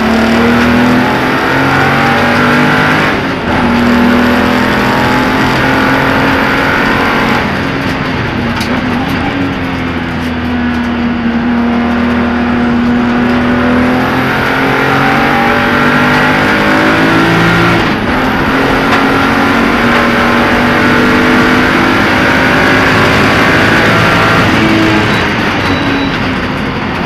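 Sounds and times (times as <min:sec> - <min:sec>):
race car engine running hard: 0:00.0 - 0:27.0.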